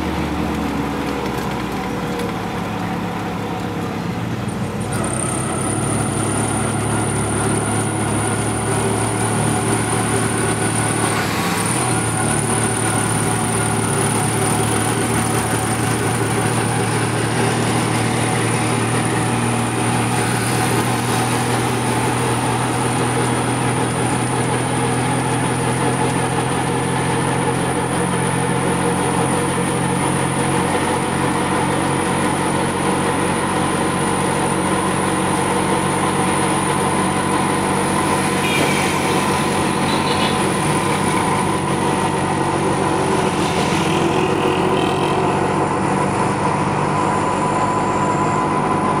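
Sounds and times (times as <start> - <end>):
passing traffic: 0.0 - 49.0
road noise: 0.0 - 49.0
vehicle engine running: 0.0 - 49.0.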